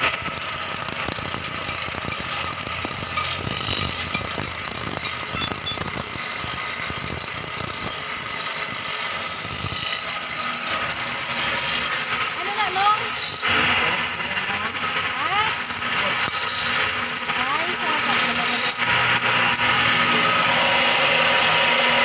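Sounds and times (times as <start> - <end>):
bench grinder grinding knife blade: 0.0 - 22.0.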